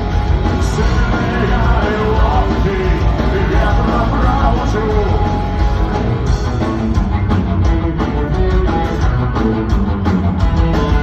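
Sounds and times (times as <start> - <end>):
rock band playing: 0.0 - 11.0
steady drumbeat: 0.0 - 11.0.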